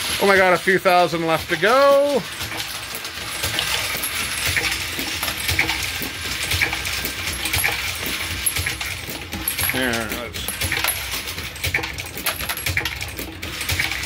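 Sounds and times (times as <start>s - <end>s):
brass cases clattering into bucket: 0.0s - 14.0s.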